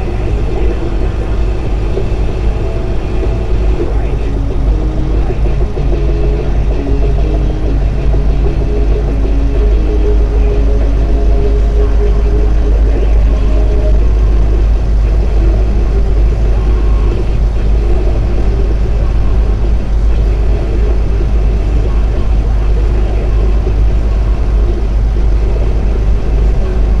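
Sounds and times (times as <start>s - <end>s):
truck engine and tyres droning: 0.0s - 27.0s.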